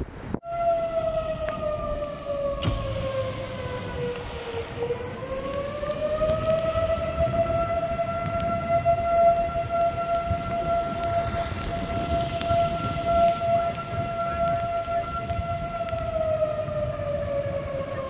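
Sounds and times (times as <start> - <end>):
siren wailing: 0.4 - 18.0.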